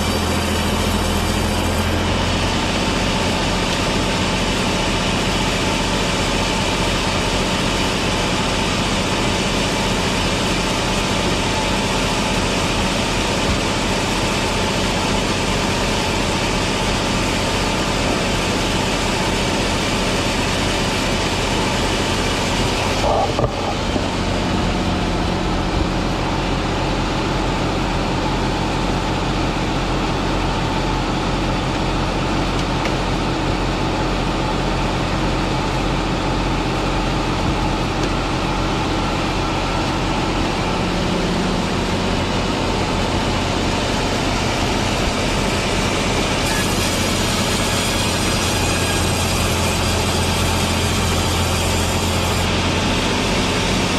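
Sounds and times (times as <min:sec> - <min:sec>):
motor drone: 0:00.0 - 0:53.9.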